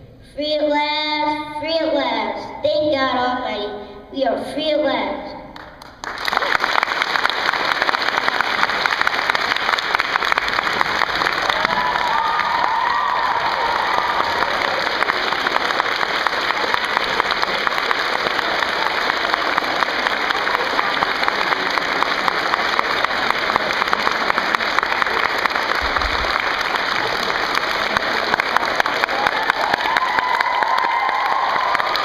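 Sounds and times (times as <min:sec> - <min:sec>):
audience applauding: 0:05.6 - 0:32.0.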